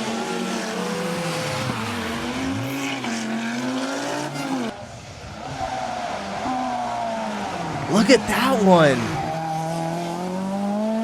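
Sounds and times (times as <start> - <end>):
distant rally car: 0.0 - 11.0
rally car engine at full throttle: 0.0 - 11.0.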